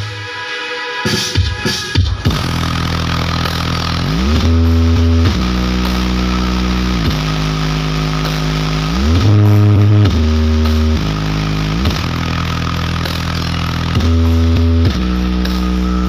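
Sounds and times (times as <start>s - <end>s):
distorted bass-heavy music: 0.0s - 16.0s.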